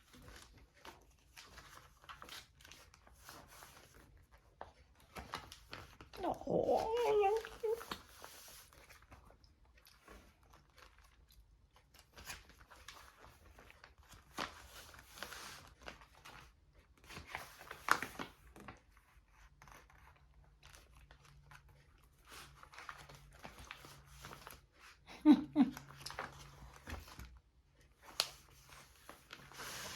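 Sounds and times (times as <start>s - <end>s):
paper rustling and crinkling: 0.0s - 25.0s, 25.9s - 29.9s.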